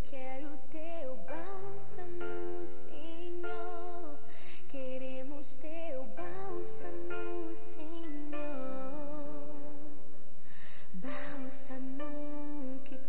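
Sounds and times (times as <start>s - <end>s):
woman singing into microphone: 0.0s - 10.0s, 10.9s - 13.0s.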